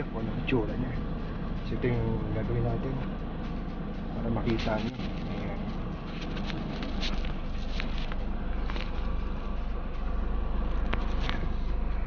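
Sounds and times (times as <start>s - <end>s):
low hum inside van cabin: 0.0s - 12.0s.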